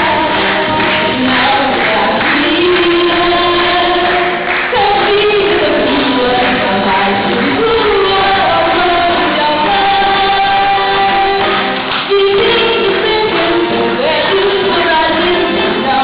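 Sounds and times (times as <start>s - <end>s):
musical accompaniment: 0.0s - 16.0s
woman singing into microphone: 0.0s - 16.0s.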